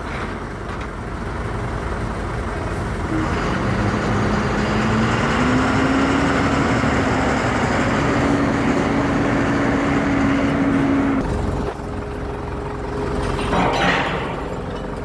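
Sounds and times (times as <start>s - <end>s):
diesel engine running under load: 0.0s - 15.0s
engine hum: 0.0s - 15.0s.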